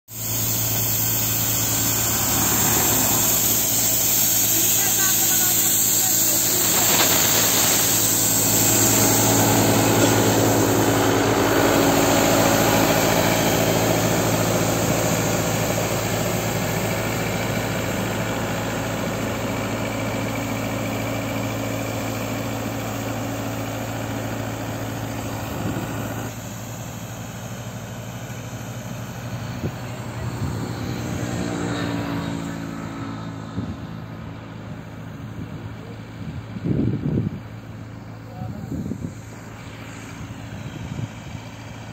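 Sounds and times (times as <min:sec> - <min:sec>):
machine engine running: 0:00.1 - 0:41.9.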